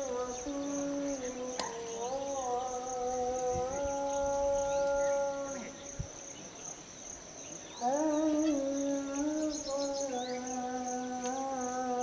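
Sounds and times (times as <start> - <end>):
person humming: 0.0 - 5.9, 7.8 - 12.0.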